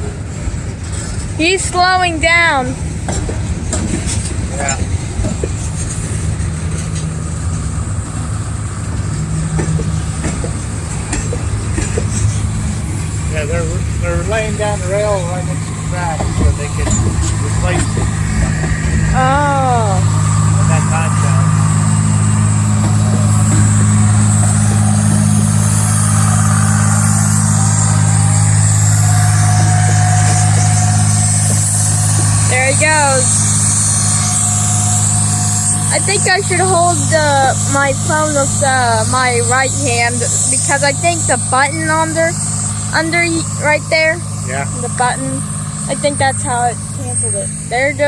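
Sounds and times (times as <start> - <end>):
steady low hum: 0.0 - 48.0
train wheels rumbling on track: 0.0 - 48.0.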